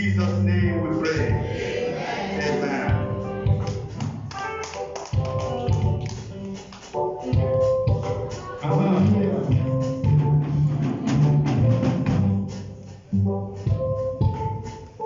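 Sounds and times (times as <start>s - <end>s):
drums and percussion: 0.0s - 1.6s, 2.6s - 15.0s
bass lines: 0.0s - 4.6s, 7.3s - 14.8s
church band music: 0.0s - 15.0s
keyboard notes: 0.0s - 15.0s.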